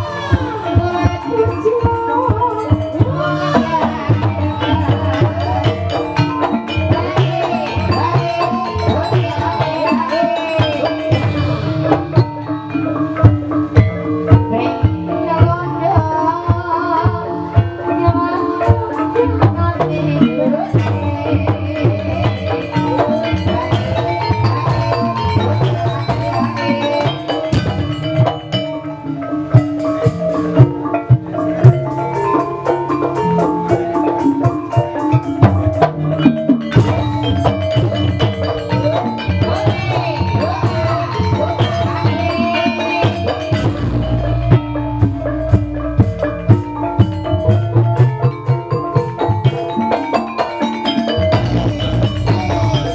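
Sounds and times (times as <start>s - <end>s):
drum strokes: 0.0s - 52.9s
mallet-struck keyed instruments: 0.0s - 52.9s.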